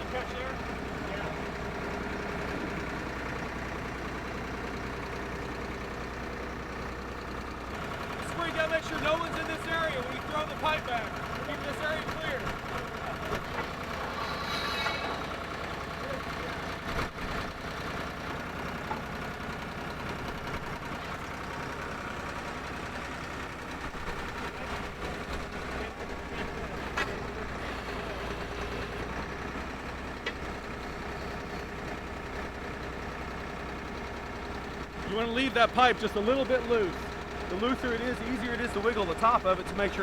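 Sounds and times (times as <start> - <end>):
drill rig engine running: 0.0 - 40.0.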